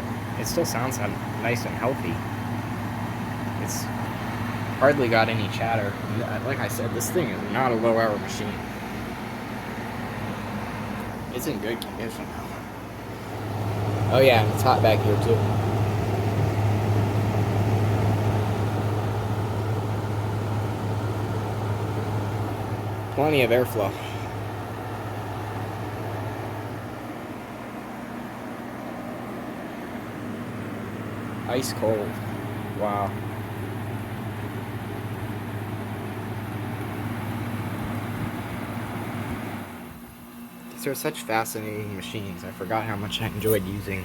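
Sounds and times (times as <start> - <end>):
air conditioner compressor hum: 0.0 - 44.0
fan rushing: 0.0 - 44.0.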